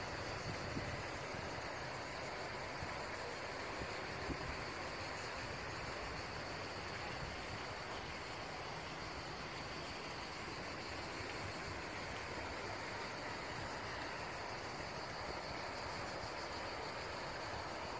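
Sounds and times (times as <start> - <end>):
high insect trill: 0.0 - 17.9
low hiss: 0.0 - 17.9.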